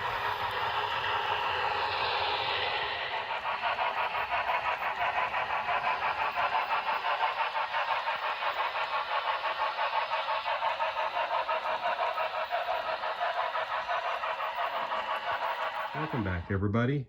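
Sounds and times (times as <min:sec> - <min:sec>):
model train rhythmic clatter: 0:00.0 - 0:16.8.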